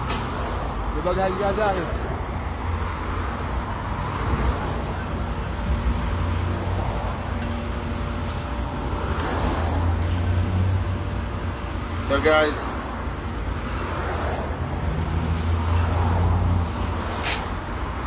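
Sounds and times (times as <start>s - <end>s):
cars passing: 0.0s - 18.0s.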